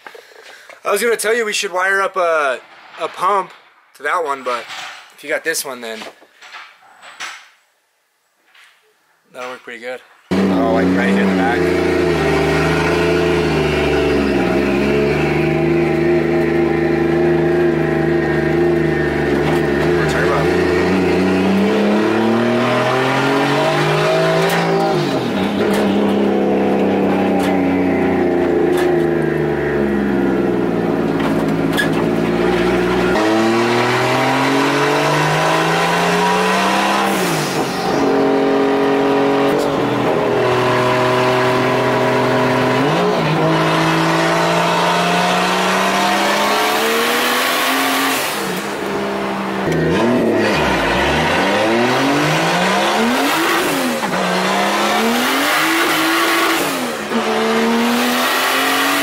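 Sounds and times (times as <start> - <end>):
car engine accelerating hard: 10.3 - 59.0.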